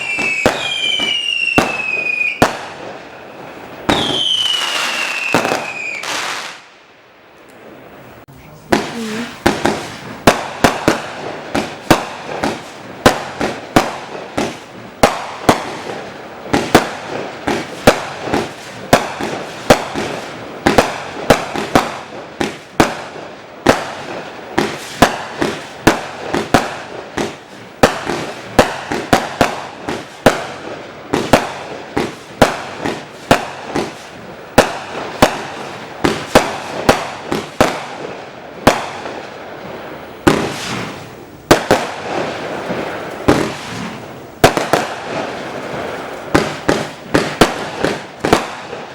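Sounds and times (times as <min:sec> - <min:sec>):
firework bangs with crackle: 0:00.0 - 0:06.8, 0:08.7 - 0:48.9
steady hiss: 0:00.0 - 0:48.9.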